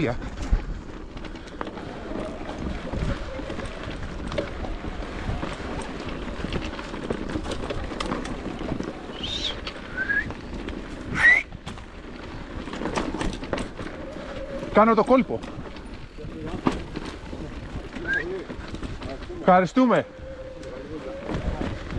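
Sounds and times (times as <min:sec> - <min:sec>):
bike riding over rough trail: 0:00.0 - 0:21.9.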